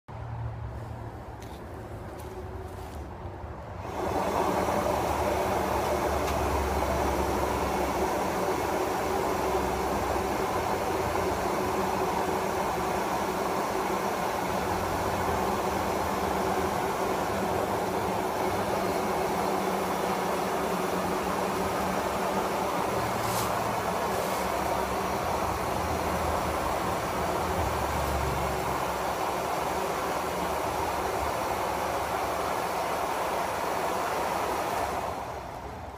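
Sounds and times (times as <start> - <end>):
electric air blower humming: 2.0 - 35.9.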